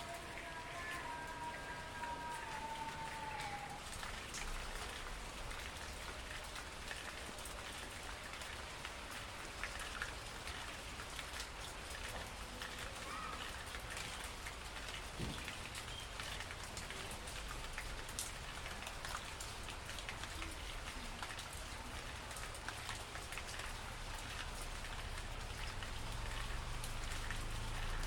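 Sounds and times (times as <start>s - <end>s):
rain falling on leaves: 0.0s - 28.0s.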